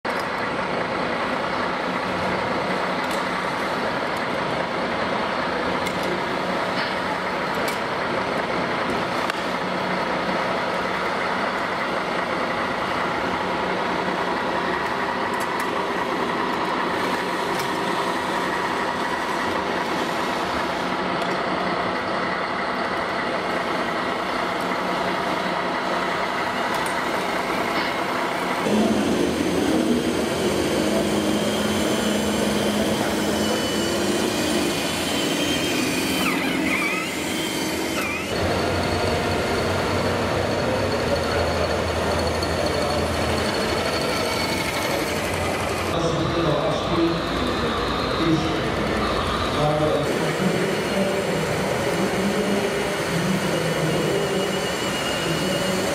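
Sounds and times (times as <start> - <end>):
model truck motor hum: 0.1 - 46.0
exhibition hall noise: 0.2 - 55.9.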